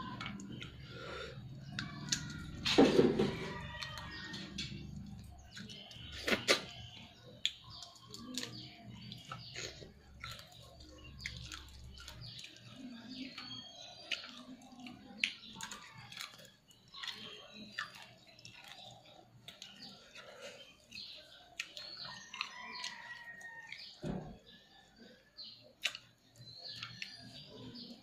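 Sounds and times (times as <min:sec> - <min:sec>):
birds chirping: 0:00.0 - 0:28.0
chewing and mouth smacks: 0:01.4 - 0:02.5, 0:03.5 - 0:24.0, 0:25.4 - 0:28.0.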